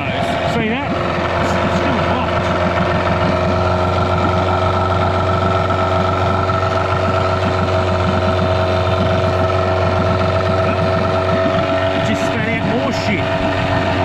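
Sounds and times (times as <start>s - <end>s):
two-stroke outboard motor running: 0.0s - 14.0s.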